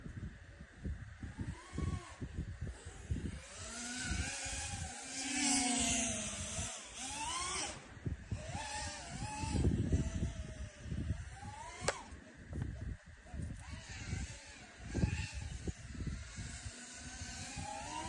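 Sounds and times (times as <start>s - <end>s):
quadcopter motors whining: 0.0s - 18.0s
wind rumble on microphone: 0.0s - 18.0s.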